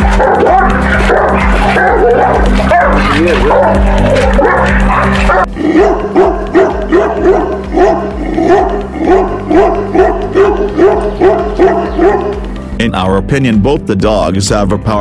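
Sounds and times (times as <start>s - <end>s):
dog barking rapidly: 0.0s - 12.6s
background music: 0.0s - 15.0s.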